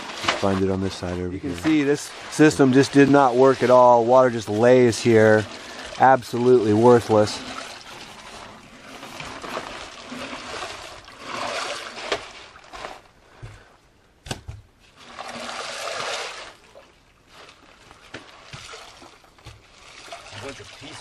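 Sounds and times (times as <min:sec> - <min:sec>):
water and mud splashing: 0:00.0 - 0:13.2, 0:14.8 - 0:21.0.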